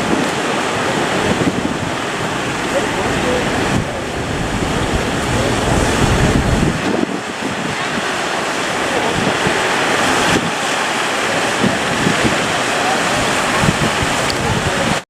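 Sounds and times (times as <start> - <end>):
sea surf breaking: 0.0 - 15.0
wind buffeting microphone: 0.0 - 15.0.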